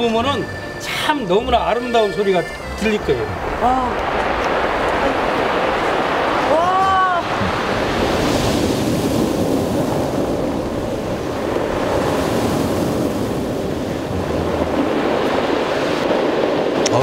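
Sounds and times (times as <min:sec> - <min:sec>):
waves on a pebble beach: 0:00.0 - 0:17.0.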